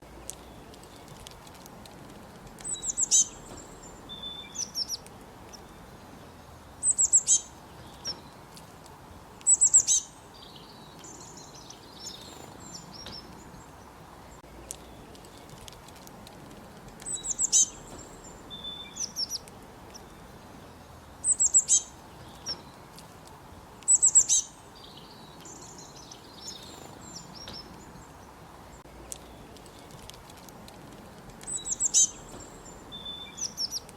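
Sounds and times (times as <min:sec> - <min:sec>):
squirrel chirping: 0:02.3 - 0:08.6, 0:09.3 - 0:33.9.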